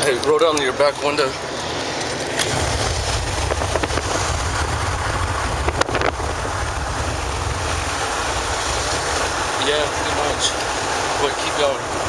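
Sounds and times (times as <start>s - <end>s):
car driving rumble: 0.0s - 12.0s
wind buffeting microphone: 0.0s - 12.0s
wind through car window: 0.0s - 12.0s.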